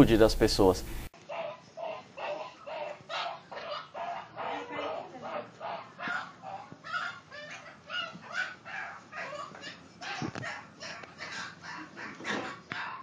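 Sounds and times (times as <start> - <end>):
dog yelping and barking: 1.3 - 13.0.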